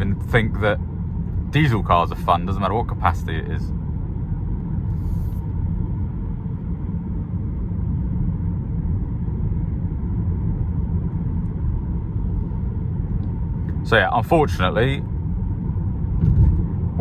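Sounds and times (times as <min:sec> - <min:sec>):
road and tyre rumble in car: 0:00.0 - 0:17.0.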